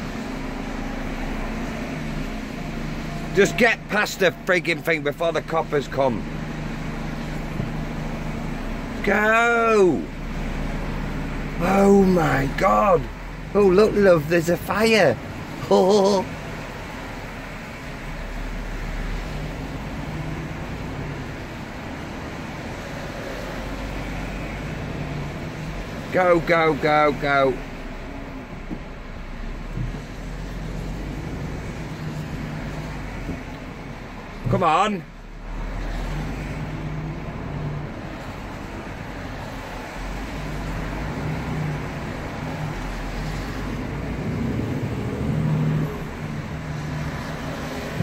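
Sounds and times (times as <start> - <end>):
truck engine drone from cab: 0.0 - 48.0.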